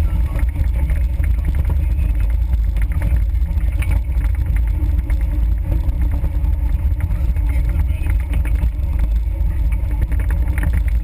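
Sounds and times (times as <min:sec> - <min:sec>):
off-road vehicle engine rumbling: 0:00.0 - 0:11.0
vehicle rattles and knocks: 0:00.0 - 0:11.0.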